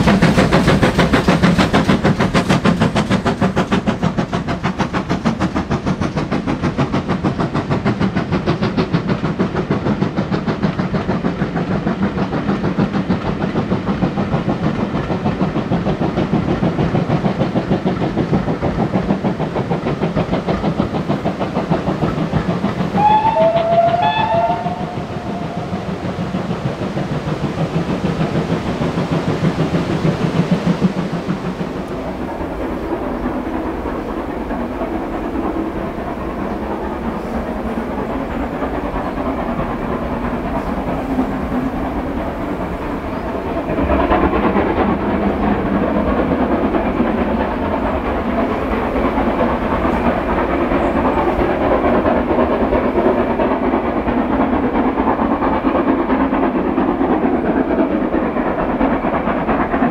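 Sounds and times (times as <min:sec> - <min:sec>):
steam locomotive exhaust chuffs: 0:00.0 - 0:59.9
train noise on rails: 0:00.0 - 0:59.9.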